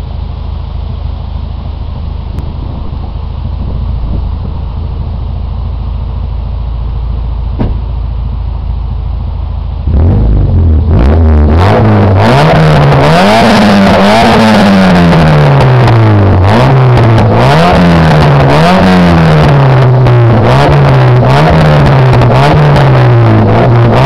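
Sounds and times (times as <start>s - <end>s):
car engine revving: 1.7s - 24.0s.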